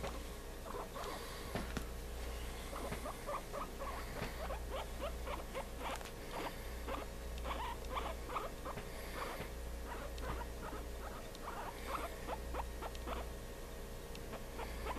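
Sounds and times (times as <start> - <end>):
low steady hum: 0.0 - 14.9
guinea pig squeaking: 0.6 - 1.2, 2.4 - 13.3, 14.2 - 14.9.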